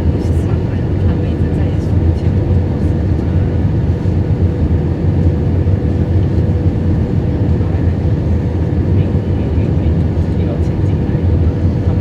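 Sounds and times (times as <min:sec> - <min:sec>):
aircraft engine and airflow noise: 0:00.0 - 0:12.0.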